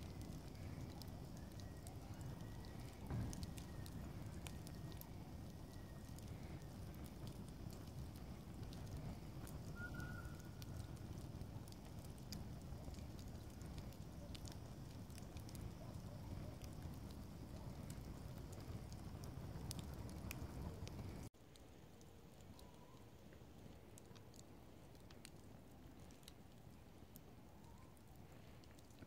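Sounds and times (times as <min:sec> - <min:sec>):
burning logs crackling: 0:00.0 - 0:29.0
rush of flames: 0:00.0 - 0:29.0.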